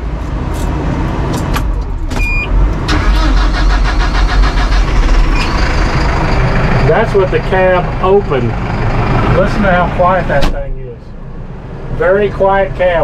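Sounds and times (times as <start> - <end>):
diesel tractor engine idling: 1.9 - 13.0.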